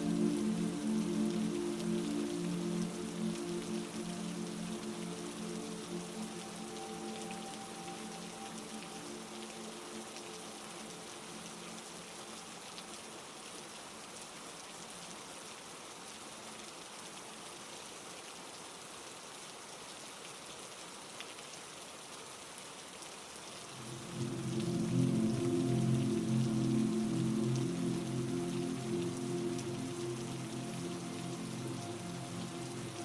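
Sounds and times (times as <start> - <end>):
heavy rain: 0.0 - 33.0.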